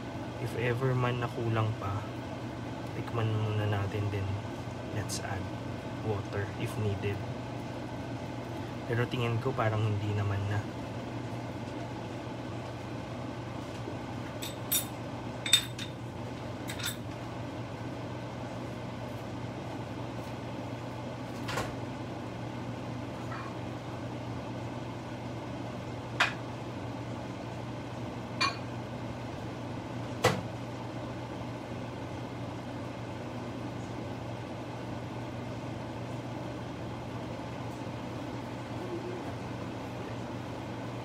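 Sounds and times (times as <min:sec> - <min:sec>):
pot simmering hum: 0:00.0 - 0:41.0.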